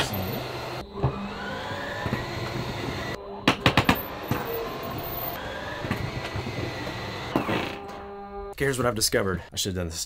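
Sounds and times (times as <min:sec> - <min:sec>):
electric motors whirring: 0:00.0 - 0:08.5.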